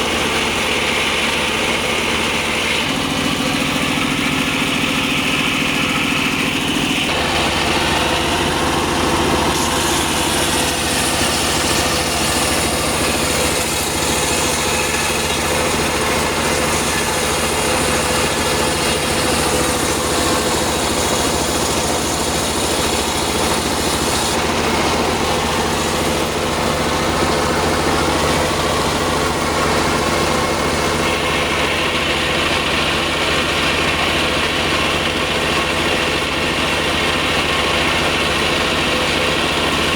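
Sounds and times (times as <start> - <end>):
circular sawmill sawing wood: 0.0 - 39.9.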